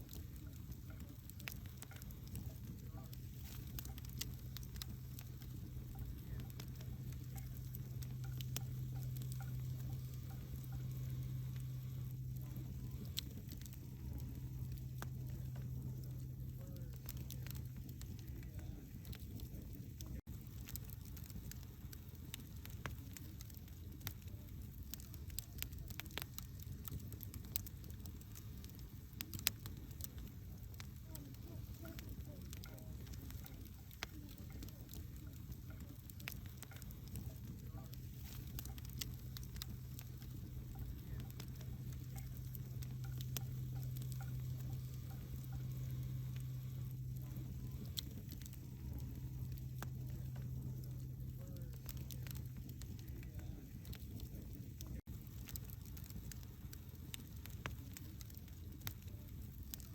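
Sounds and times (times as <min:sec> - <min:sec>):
low steady fire rumble: 0:00.0 - 0:59.9
wood fire crackling and popping: 0:00.0 - 0:59.9.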